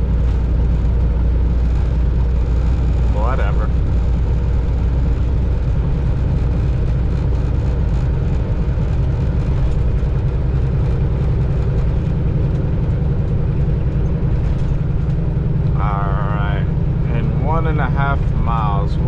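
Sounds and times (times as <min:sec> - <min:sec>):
road noise inside cab: 0:00.0 - 0:19.0
truck diesel engine drone: 0:00.0 - 0:19.0.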